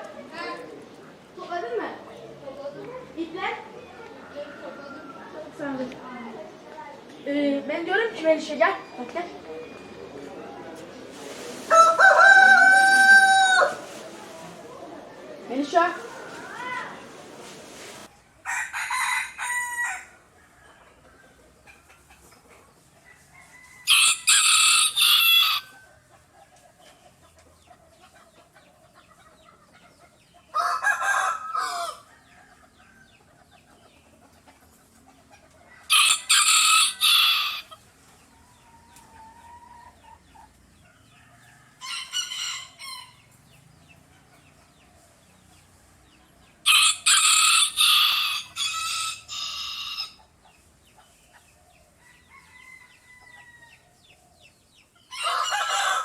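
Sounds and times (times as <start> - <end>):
roosters crowing: 3.1 - 5.9, 7.9 - 26.4, 30.2 - 34.0, 35.0 - 50.5, 51.7 - 56.0.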